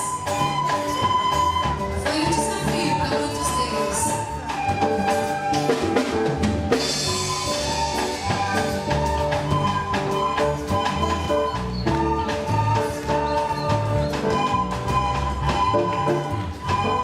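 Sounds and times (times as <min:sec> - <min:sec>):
drum kit beat: 0:00.0 - 0:17.0
upbeat instrumental music: 0:00.0 - 0:17.0.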